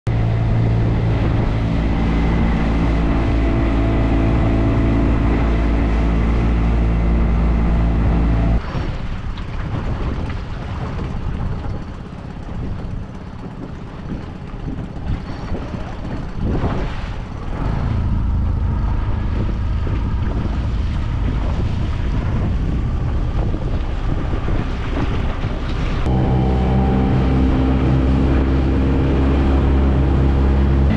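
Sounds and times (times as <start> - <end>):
wind: 0.0 - 30.9
boat motor running: 0.1 - 30.9
water noise: 0.1 - 30.9.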